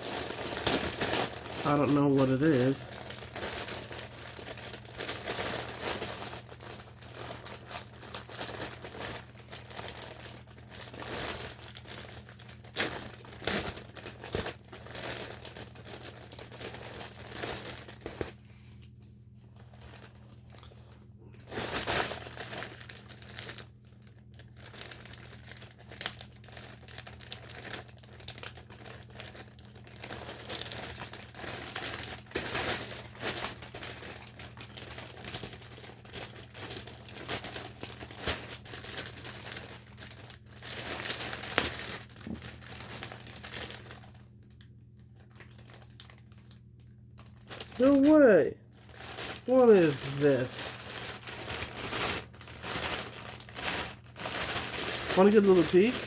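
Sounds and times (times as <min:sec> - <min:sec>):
packaging crinkling and rustling: 0:00.0 - 0:56.0.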